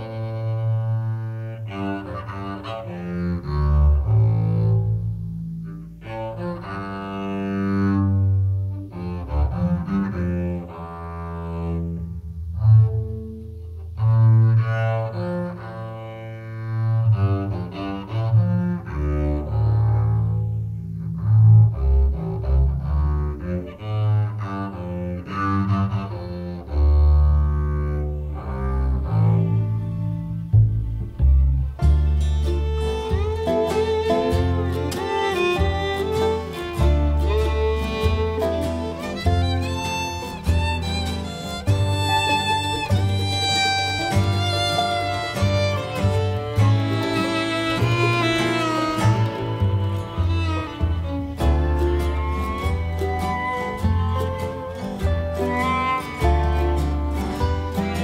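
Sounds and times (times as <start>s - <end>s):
bowed low strings music: 0.0s - 58.0s.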